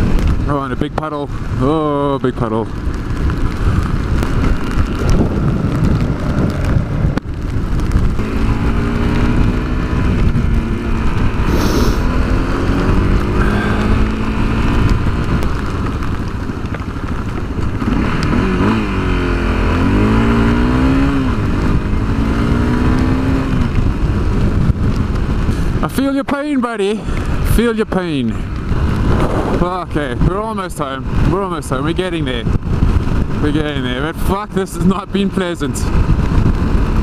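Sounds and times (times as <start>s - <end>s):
motorcycle engine running: 0.0s - 37.0s
wind rumble on microphone: 0.0s - 37.0s.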